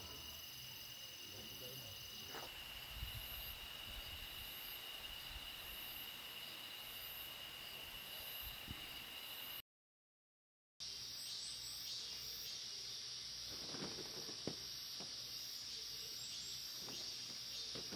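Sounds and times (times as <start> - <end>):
crickets trilling: 0.0 - 9.6, 10.8 - 17.9.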